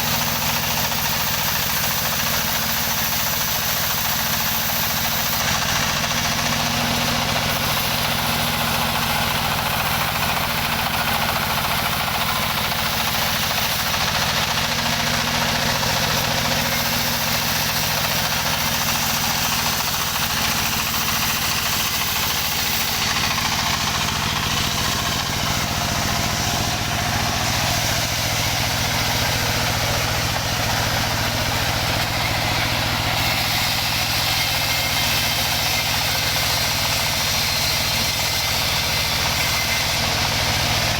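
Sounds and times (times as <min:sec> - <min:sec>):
sawing machine engine running: 0:00.0 - 0:40.9.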